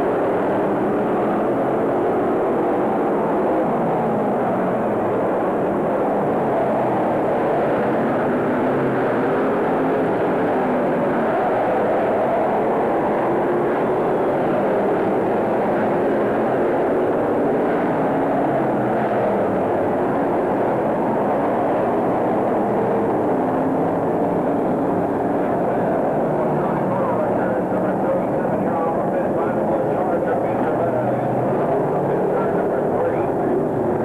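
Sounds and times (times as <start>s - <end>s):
many race car engines droning: 0.0s - 34.0s.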